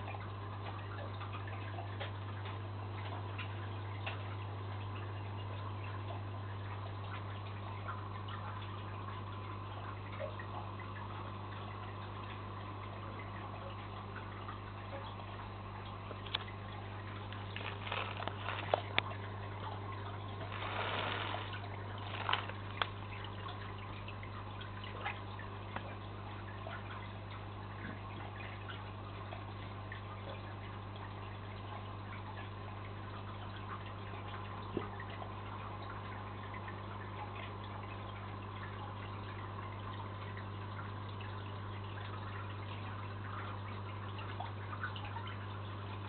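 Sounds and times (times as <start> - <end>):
aquarium low hum: 0.0 - 46.0
water trickling and bubbling: 0.0 - 46.0.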